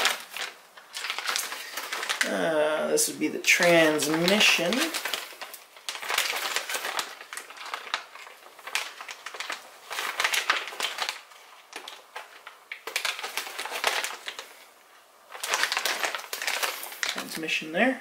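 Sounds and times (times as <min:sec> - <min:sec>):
plastic bag crinkling: 0:00.0 - 0:17.7.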